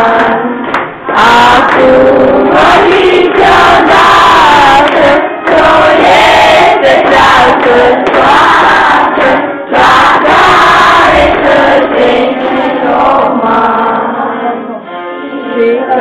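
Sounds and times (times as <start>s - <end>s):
children singing and shouting: 0.0s - 16.0s.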